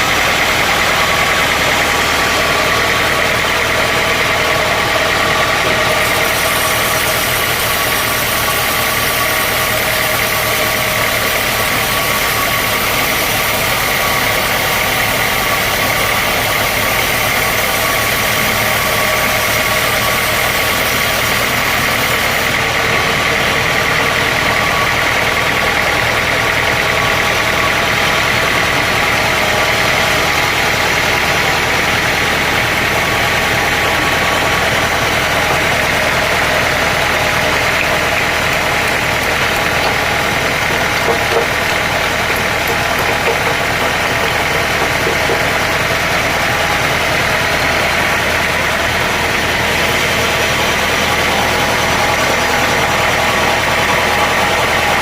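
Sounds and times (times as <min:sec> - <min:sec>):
high mechanical whine: 0:00.0 - 0:55.0
sawmill machinery drone: 0:00.0 - 0:55.0.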